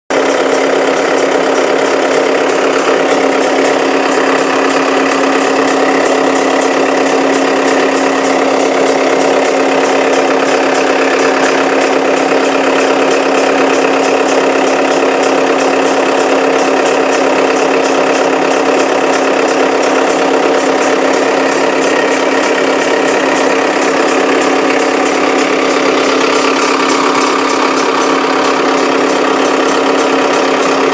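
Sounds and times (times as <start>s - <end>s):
pump humming with rough crackle: 0.1s - 30.9s.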